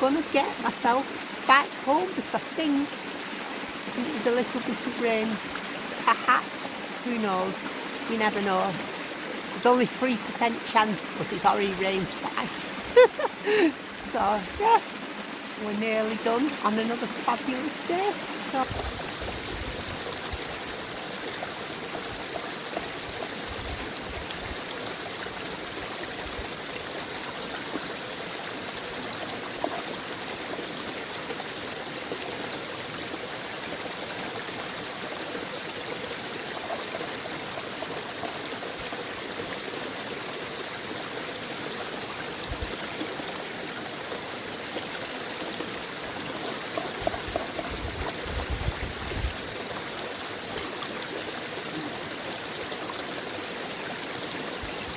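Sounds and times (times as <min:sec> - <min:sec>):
babbling brook and waterfall: 0:00.0 - 0:54.9.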